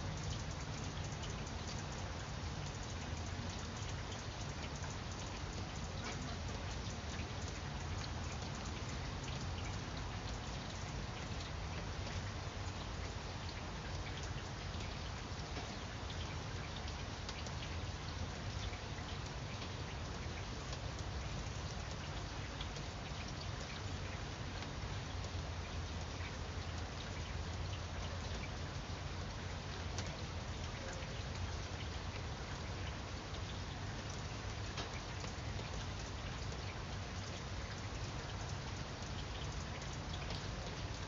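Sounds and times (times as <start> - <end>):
rain falling on leaves: 0.0 - 41.0.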